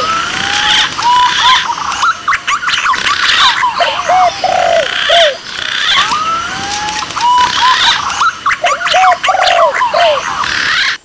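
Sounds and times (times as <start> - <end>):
dove calls: 0.0 - 11.0
pigeon calls: 0.0 - 11.0.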